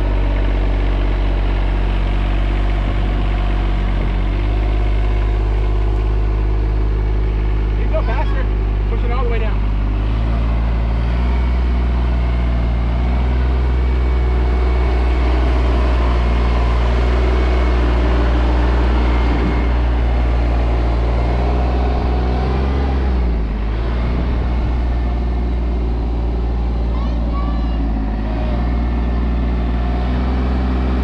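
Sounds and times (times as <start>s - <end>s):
tractor engine droning: 0.0s - 31.0s.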